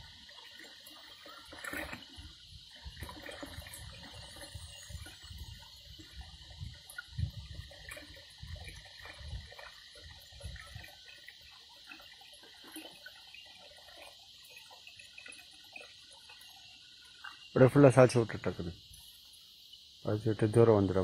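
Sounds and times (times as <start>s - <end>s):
water trickling into a basin: 0.0s - 21.0s.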